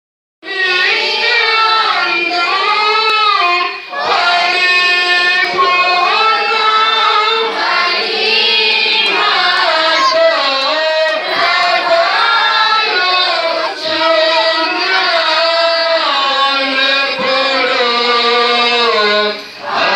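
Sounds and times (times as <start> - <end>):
group singing a hymn: 0.4 - 19.9.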